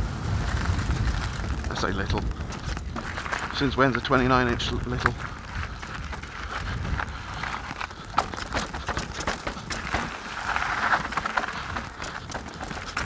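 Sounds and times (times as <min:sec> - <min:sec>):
mountain bike rattling: 0:00.0 - 0:13.0
tyres on gravel and rock: 0:00.0 - 0:13.0.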